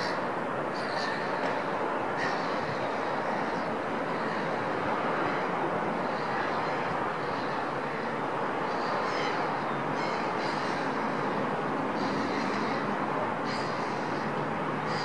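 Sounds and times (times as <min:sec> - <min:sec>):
distant city traffic: 0:00.0 - 0:15.0.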